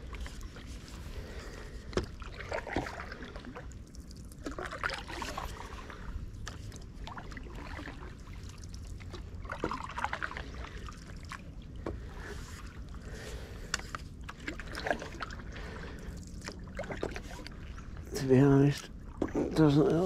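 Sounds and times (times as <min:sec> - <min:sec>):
paddle splashing through water: 0:00.0 - 0:18.0.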